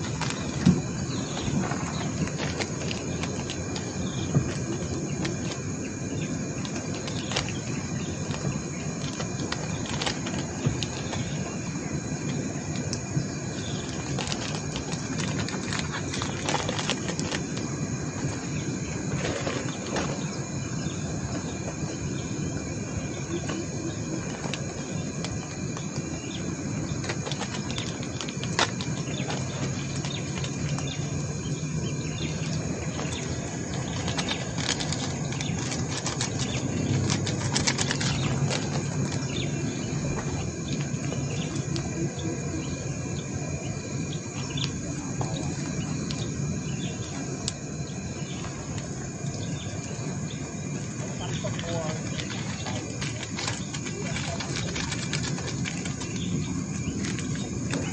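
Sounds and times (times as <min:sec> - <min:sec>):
insects buzzing: 0:00.0 - 0:57.9.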